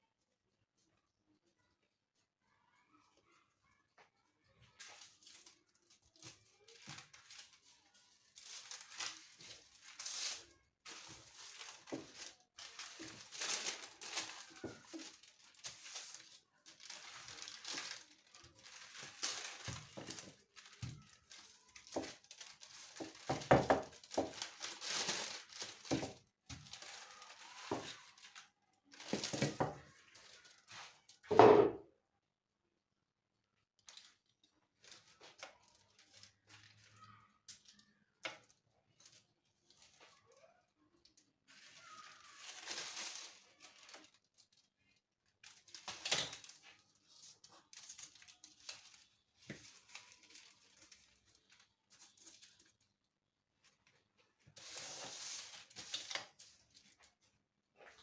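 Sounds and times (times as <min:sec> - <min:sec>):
rustling and crinkling handling: 0:00.2 - 0:31.6, 0:33.8 - 0:58.0.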